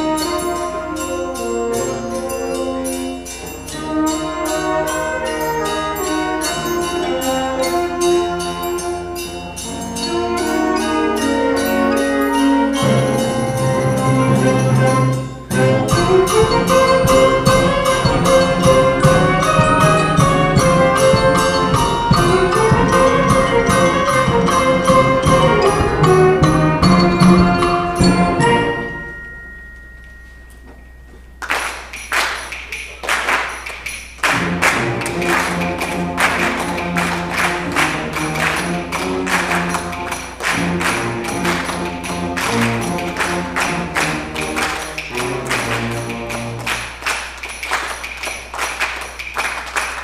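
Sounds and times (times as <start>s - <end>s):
concert band playing: 0.0s - 29.2s, 30.5s - 47.1s
percussion strikes: 0.0s - 50.0s.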